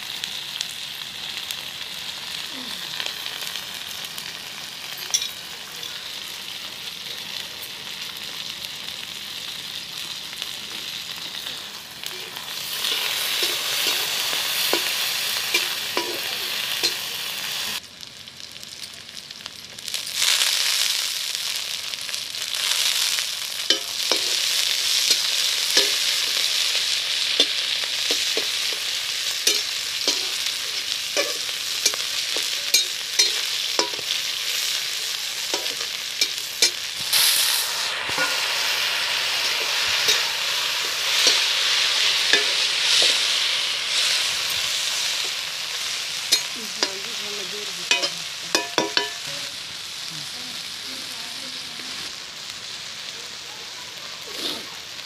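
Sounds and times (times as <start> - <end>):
onion sizzling in hot oil: 0.0 - 55.0.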